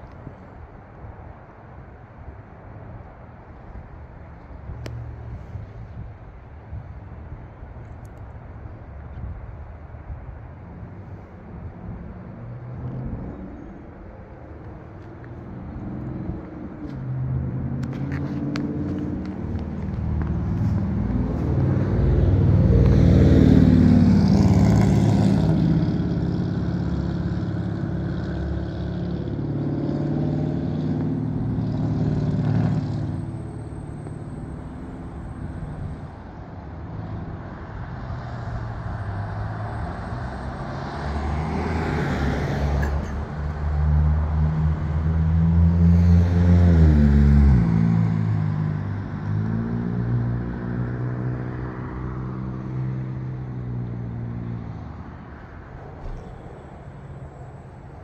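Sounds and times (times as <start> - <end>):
car engines running: 0.0 - 58.0.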